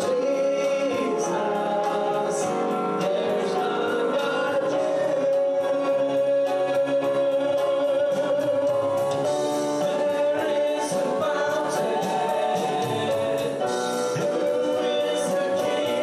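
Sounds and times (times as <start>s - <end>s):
choir singing: 0.0s - 16.0s
live band with steady beat: 0.0s - 16.0s.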